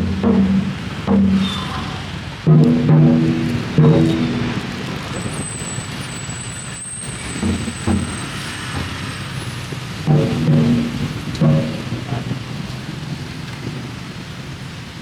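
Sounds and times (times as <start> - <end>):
busy road traffic: 0.0 - 15.0.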